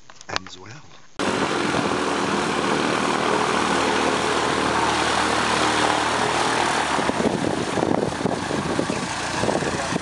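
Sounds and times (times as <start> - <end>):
light aircraft propeller engine: 1.2 - 10.0.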